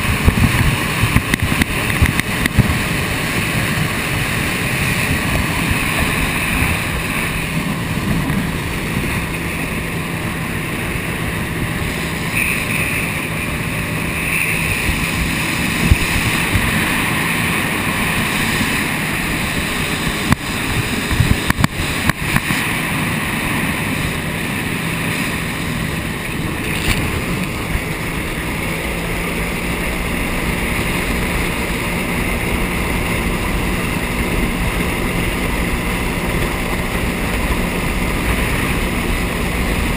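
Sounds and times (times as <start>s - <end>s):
jet ski engine running: 0.0s - 39.9s
water rushing: 0.0s - 39.9s
wind noise on microphone: 0.0s - 39.9s.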